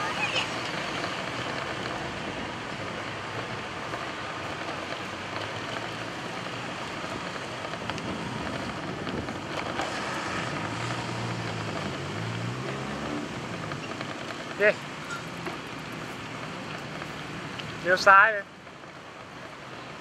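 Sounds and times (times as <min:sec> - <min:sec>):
motor vehicle engine hum: 0:00.0 - 0:20.0
wind and road rushing: 0:00.0 - 0:20.0.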